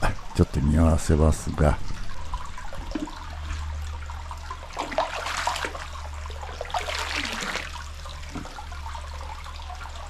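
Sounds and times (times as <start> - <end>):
hot spring water trickling: 0.0 - 10.0
steady low hum: 0.0 - 10.0
water splashing: 1.4 - 10.0.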